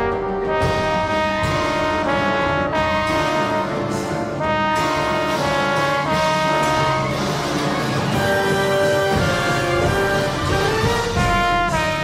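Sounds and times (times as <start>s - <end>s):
wind ensemble brass chords: 0.0s - 12.0s.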